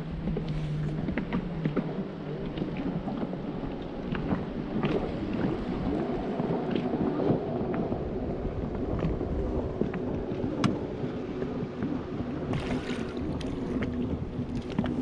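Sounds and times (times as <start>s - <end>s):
water slapping against hull: 0.0s - 15.0s
wind buffeting microphone: 0.0s - 15.0s.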